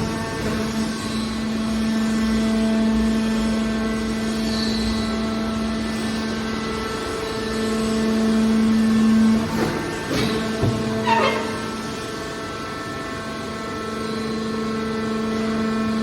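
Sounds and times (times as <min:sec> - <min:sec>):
hydraulic power unit humming: 0:00.0 - 0:16.0.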